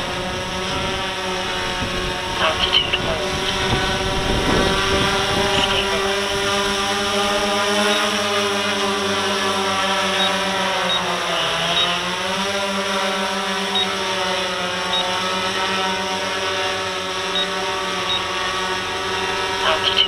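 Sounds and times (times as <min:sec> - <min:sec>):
drone motors humming: 0:00.0 - 0:20.0.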